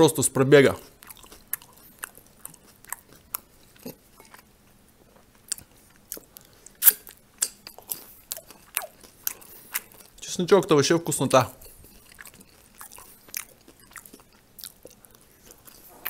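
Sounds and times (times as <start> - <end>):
person chewing and lip-smacking: 0.8 - 10.2, 11.6 - 16.0.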